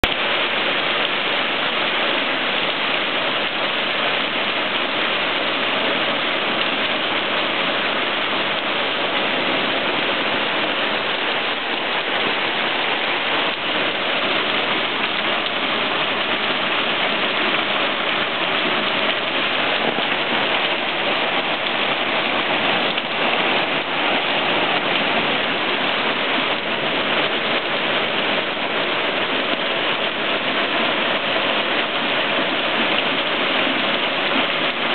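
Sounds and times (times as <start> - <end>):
heavy rain on pavement: 0.0 - 34.9.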